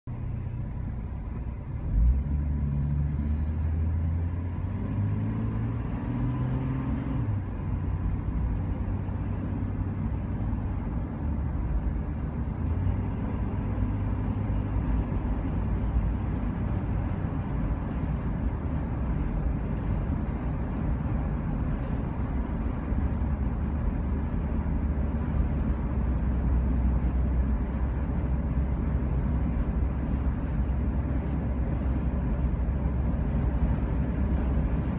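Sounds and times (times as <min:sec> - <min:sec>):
road noise: 0:00.0 - 0:34.9
vehicle engine accelerating: 0:00.1 - 0:34.9.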